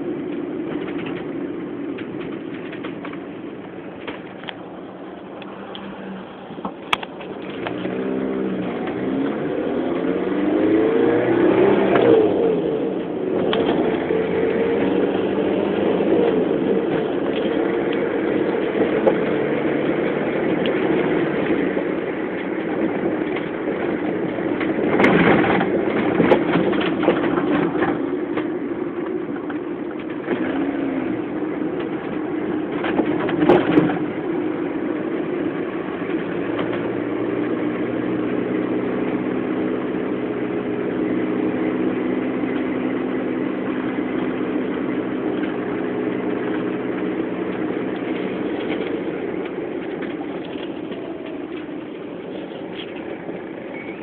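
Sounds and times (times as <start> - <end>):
car engine revving: 0.0 - 54.0
road noise: 0.0 - 54.0.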